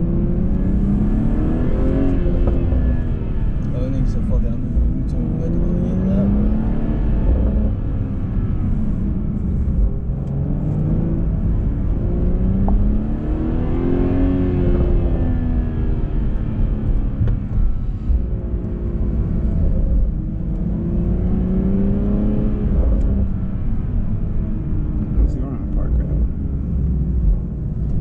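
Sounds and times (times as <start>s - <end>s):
car engine accelerating: 0.0s - 28.0s
low road rumble: 0.0s - 28.0s.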